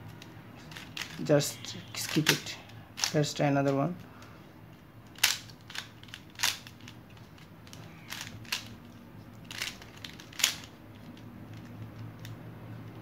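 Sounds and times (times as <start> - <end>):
puzzle cube clacking: 0.0 - 3.8, 5.0 - 12.4
puzzle cube clicking and rattling: 0.0 - 3.8, 5.0 - 12.4.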